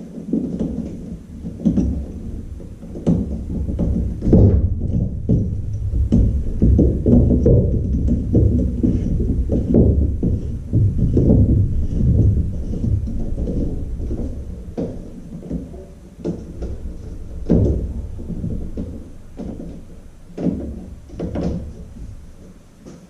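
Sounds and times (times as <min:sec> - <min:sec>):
hard clunks and knocks: 0:00.0 - 0:23.0
low handling rumble: 0:00.0 - 0:23.0.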